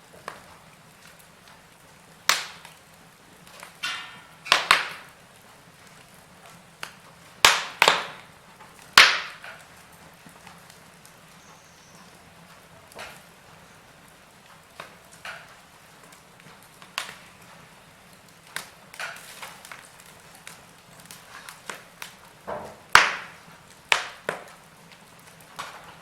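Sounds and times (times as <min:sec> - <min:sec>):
burning wood pops: 0:00.0 - 0:26.0
faint steady background noise: 0:00.0 - 0:26.0
fireplace fire crackling: 0:00.0 - 0:26.0.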